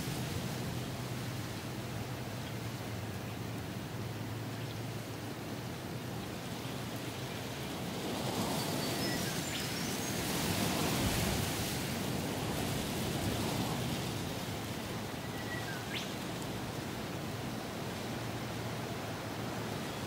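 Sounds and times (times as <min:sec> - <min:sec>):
strong wind rushing through trees: 0:00.0 - 0:20.0.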